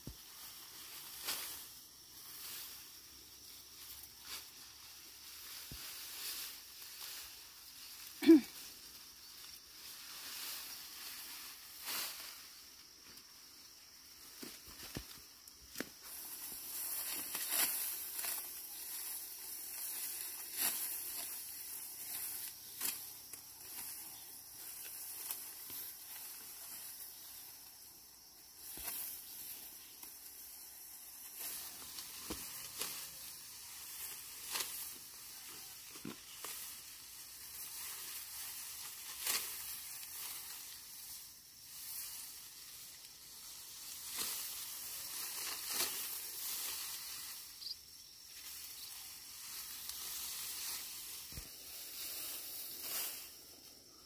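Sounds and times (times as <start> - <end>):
dry plant stalks rustling: 0.0 - 54.0
steady high hiss: 0.0 - 54.0.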